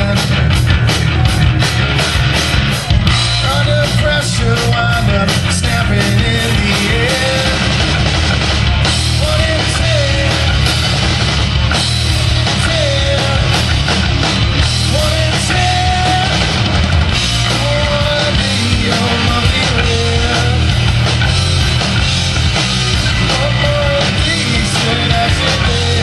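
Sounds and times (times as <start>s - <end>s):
distorted guitar rock music: 0.0s - 26.0s
drums and bass: 0.0s - 26.0s.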